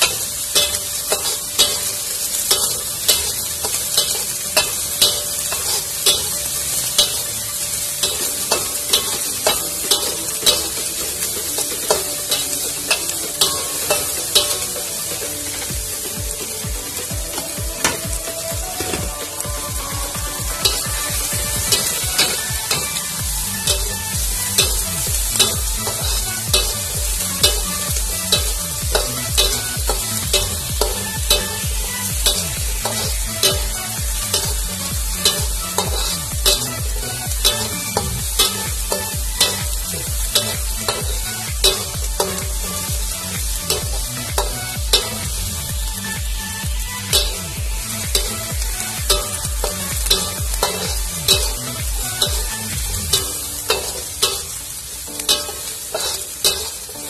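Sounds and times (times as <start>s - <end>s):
metal spatula scraping wok: 0.0s - 57.0s
vegetables sizzling in oil: 0.0s - 57.0s.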